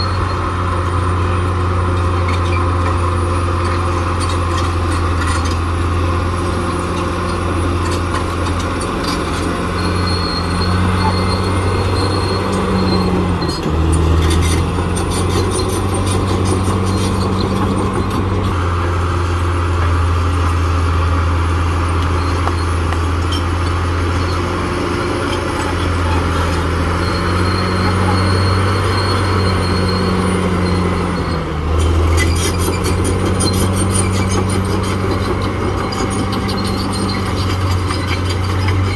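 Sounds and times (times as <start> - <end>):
dozer diesel engine droning: 0.0 - 38.9.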